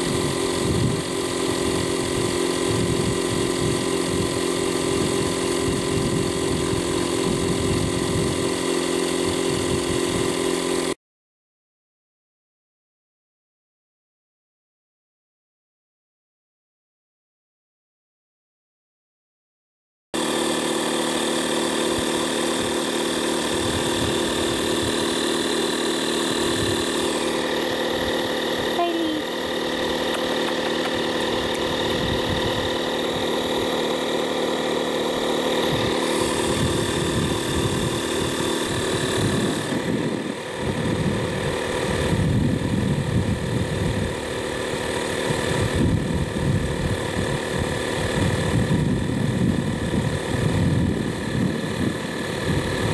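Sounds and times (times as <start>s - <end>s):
air compressor humming: 0.0s - 11.0s, 20.2s - 52.9s.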